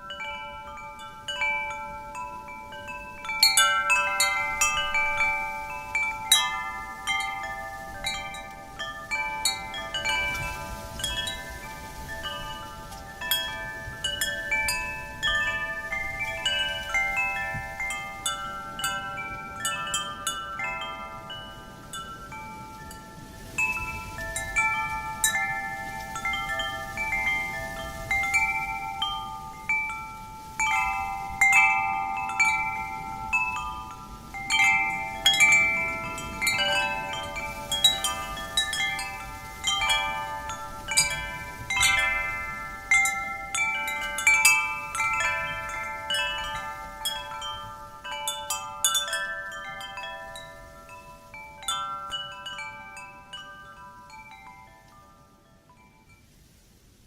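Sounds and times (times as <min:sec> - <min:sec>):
metal wind chimes ringing: 0:00.0 - 0:56.5
soft rush of wind: 0:00.0 - 0:57.0.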